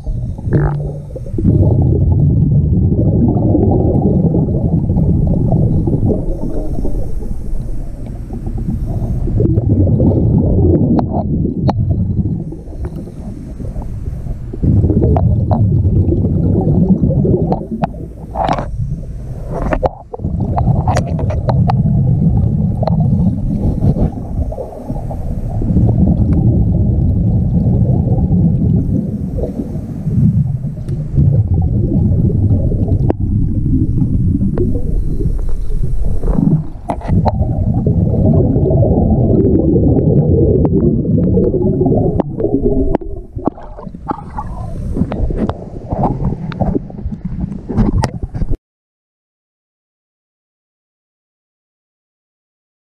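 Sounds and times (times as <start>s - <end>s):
underwater regulator bubbling: 0.0s - 48.6s.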